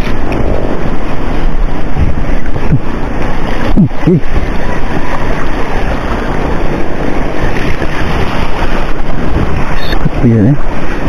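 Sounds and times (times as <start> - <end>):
sea waves: 0.0 - 11.0
wind buffeting microphone: 0.0 - 11.0.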